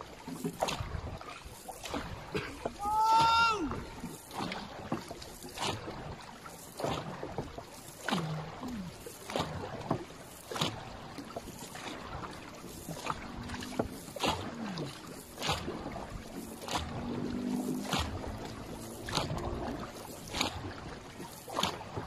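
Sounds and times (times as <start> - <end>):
water rushing along hull: 0.0 - 22.0
wooden paddles striking water: 0.0 - 22.0.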